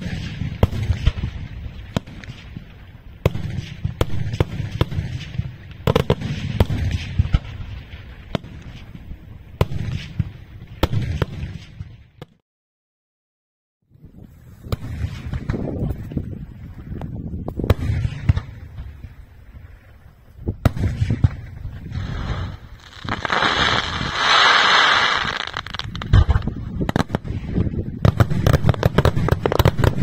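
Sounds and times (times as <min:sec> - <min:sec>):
fireworks bangs: 0:00.0 - 0:12.4, 0:14.1 - 0:30.0.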